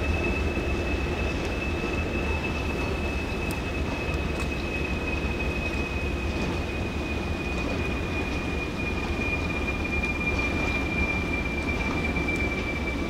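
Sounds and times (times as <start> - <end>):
diesel locomotive rumble: 0.0 - 13.0
high-pitched whine: 0.0 - 13.0.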